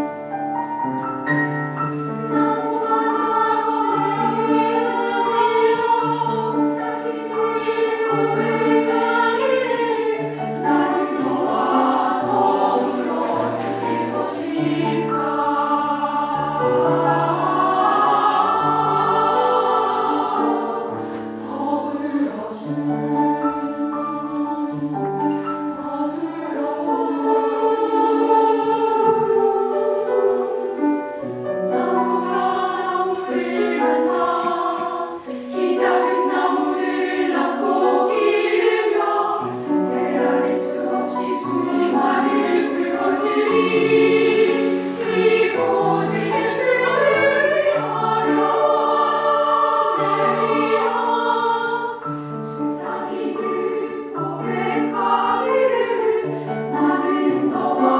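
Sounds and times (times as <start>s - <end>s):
choir singing: 0.0s - 57.9s.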